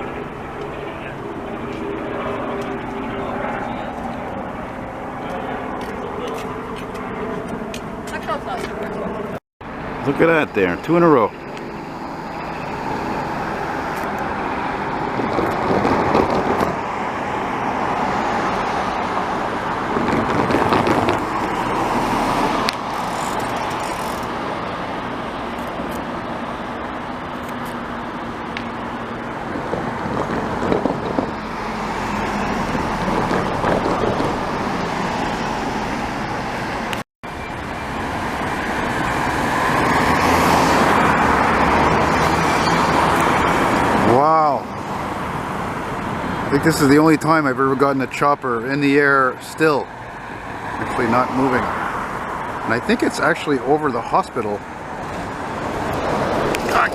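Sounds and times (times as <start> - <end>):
highway traffic noise: 0.0 - 56.9.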